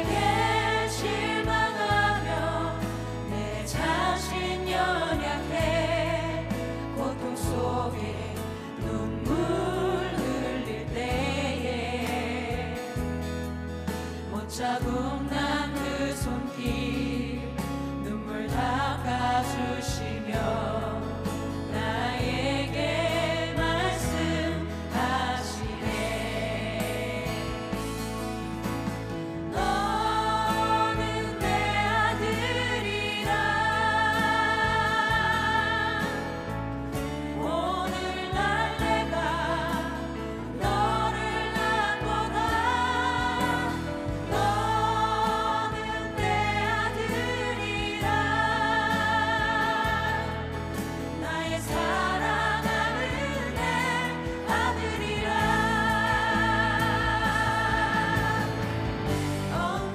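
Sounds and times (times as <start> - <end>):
keyboard accompaniment: 0.0 - 59.9
vocal group singing in harmony: 0.0 - 59.9.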